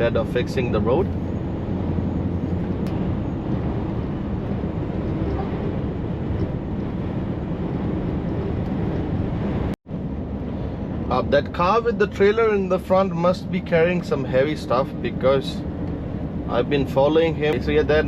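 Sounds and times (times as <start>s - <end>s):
truck engine and tyre drone: 0.0s - 18.0s.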